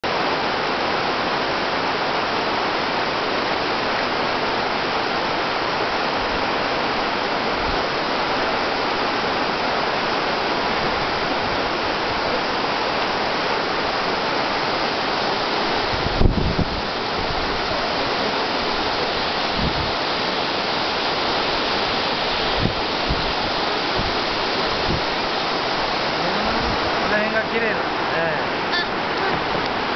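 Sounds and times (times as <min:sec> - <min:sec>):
waterfall and rapids rushing: 0:00.0 - 0:29.9.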